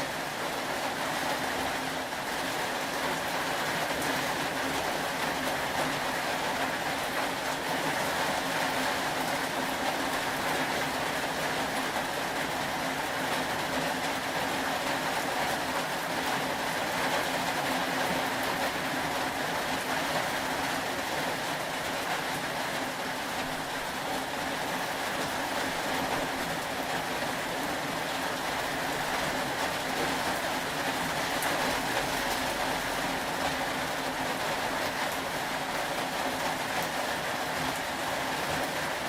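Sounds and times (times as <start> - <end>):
rain hiss: 0.0 - 39.0.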